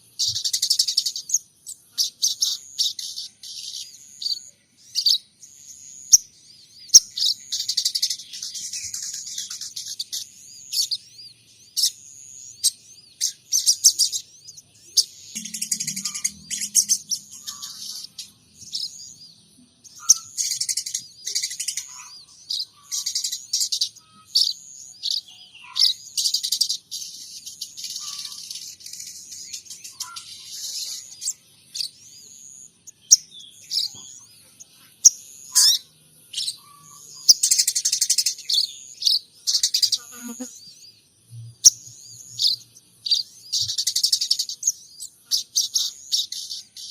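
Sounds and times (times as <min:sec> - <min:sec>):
songbird chirping and twittering: 0:00.0 - 0:46.9.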